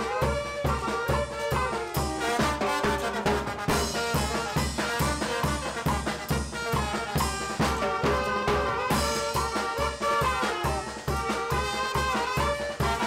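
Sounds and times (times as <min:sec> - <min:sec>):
saxophone and brass: 0:00.0 - 0:13.0
steady drum beat: 0:00.0 - 0:13.0.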